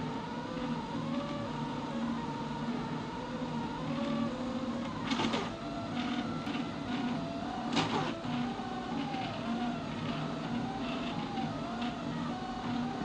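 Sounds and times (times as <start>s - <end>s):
printer steady hum: 0.0s - 13.0s.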